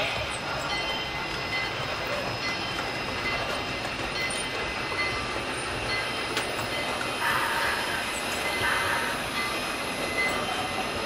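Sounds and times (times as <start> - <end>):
model steam locomotive running: 0.0 - 11.0.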